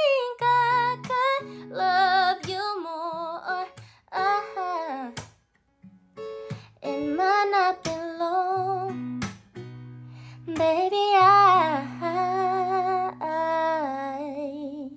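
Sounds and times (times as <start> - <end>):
woman singing slow melody: 0.0 - 5.2, 6.8 - 9.1, 10.4 - 14.9.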